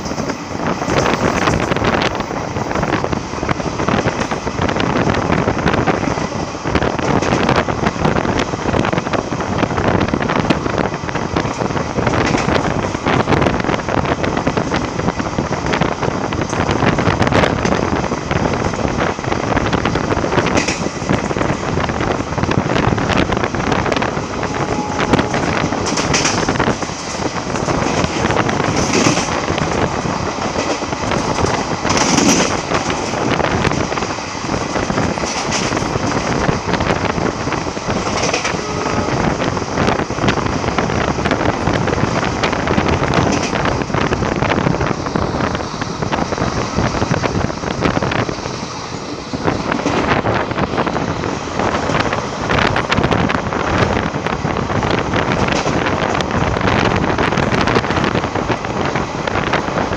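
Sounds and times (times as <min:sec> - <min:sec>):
train wheels rumbling on rails: 0:00.0 - 0:59.9
wind on microphone: 0:00.0 - 0:59.9.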